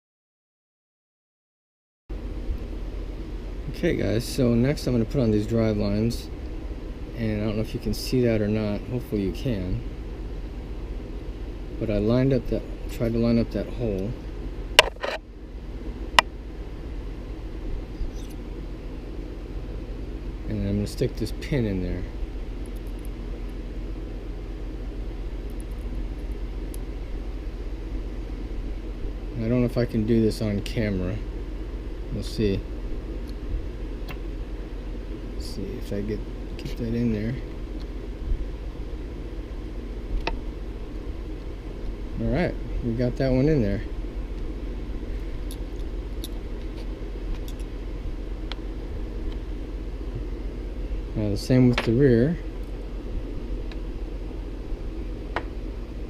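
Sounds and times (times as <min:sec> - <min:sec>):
room hum and hiss: 0:02.1 - 0:56.0.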